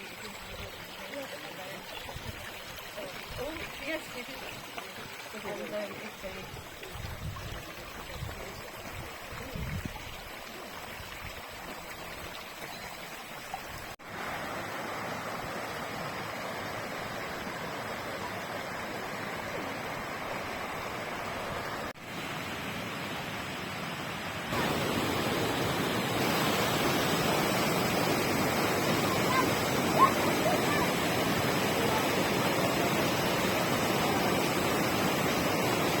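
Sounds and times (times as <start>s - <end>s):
forest stream and waterfall rushing: 0.0s - 36.0s.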